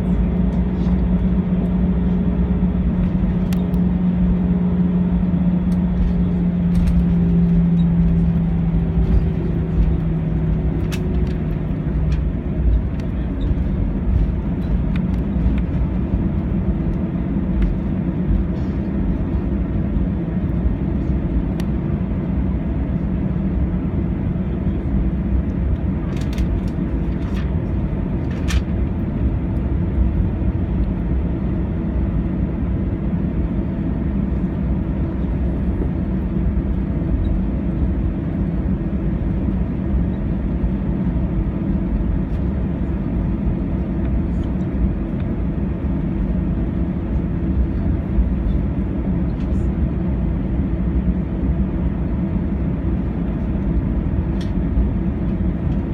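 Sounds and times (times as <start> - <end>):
jet engines rumbling: 0.0 - 55.9
low engine whine: 0.0 - 55.9.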